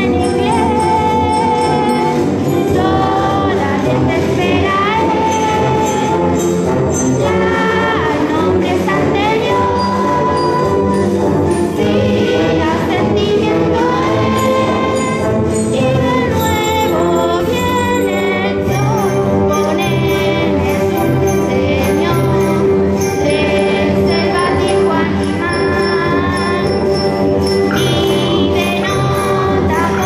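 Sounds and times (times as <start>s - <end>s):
jingle bells shaken: 0.0s - 8.2s, 14.0s - 30.0s
choir singing: 0.0s - 30.0s
instrumental accompaniment: 0.0s - 30.0s.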